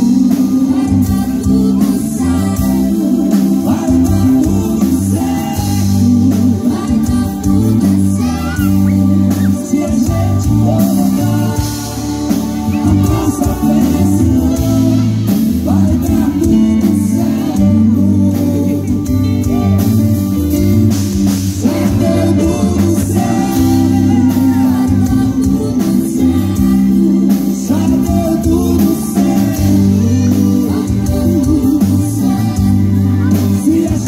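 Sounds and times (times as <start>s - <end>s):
drums: 0.0s - 34.0s
electric guitars: 0.0s - 34.0s
men singing: 0.0s - 34.0s.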